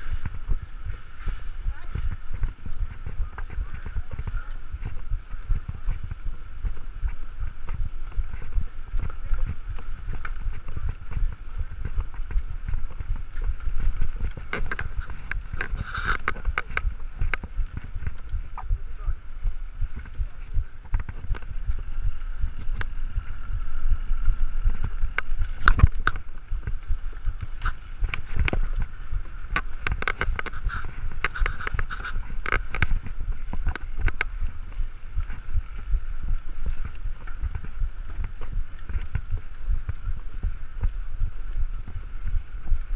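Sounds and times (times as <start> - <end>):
bike rattles and clicks: 0.0 - 42.9.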